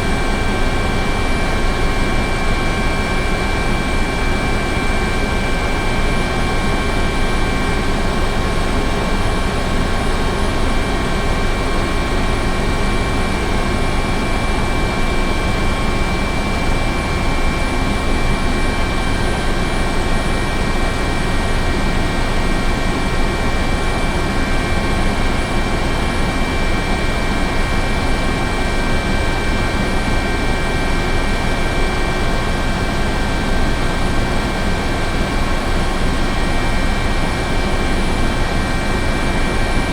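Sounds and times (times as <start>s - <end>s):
helicopter engine and rotor: 0.0s - 39.9s
turbine whine: 0.0s - 39.9s.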